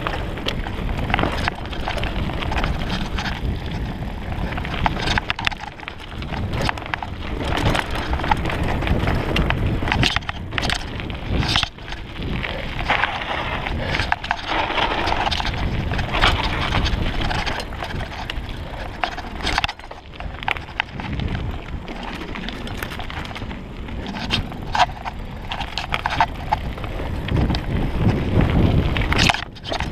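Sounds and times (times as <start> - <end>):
bike knocking and rattling: 0.0 - 29.9
bike tyres on rough trail: 0.0 - 29.9.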